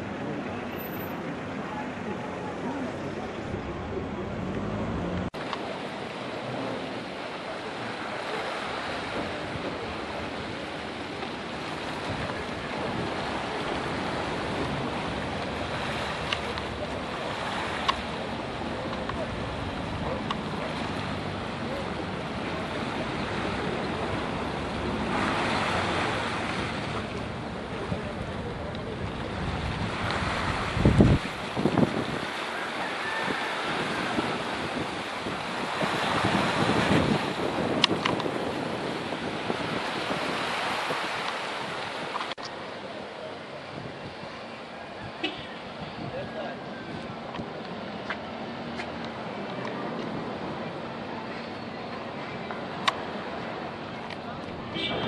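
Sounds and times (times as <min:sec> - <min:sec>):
sea water rushing: 0:00.0 - 0:55.0
wind: 0:00.0 - 0:55.0.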